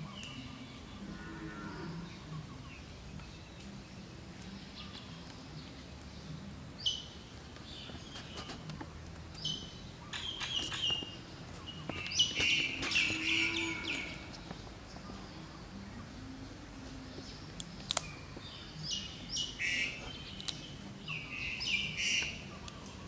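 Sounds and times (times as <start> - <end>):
birds chirping: 0.0 - 23.0
outdoor background hum: 0.0 - 23.0.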